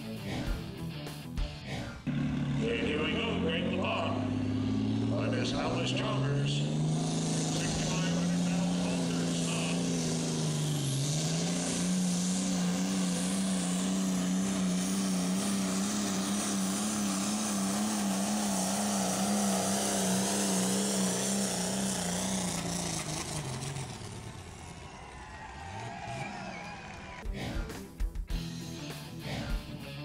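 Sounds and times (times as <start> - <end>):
tractor engine under load: 2.1 - 27.2.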